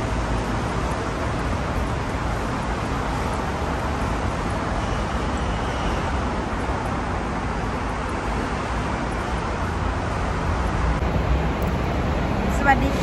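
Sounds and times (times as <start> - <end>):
continuous hiss: 0.0 - 13.0
traffic rumble: 0.0 - 13.0.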